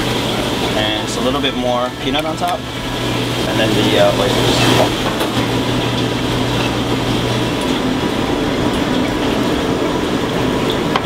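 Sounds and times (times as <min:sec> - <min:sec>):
exhaust hood fans roaring: 0:00.0 - 0:11.0.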